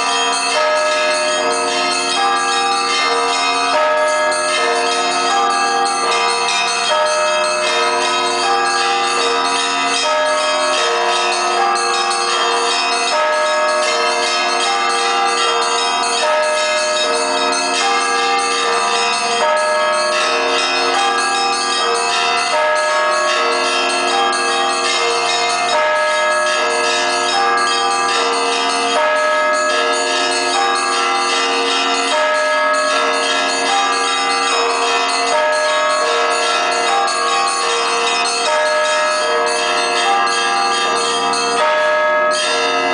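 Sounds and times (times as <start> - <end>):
church bells pealing: 0.0 - 42.9.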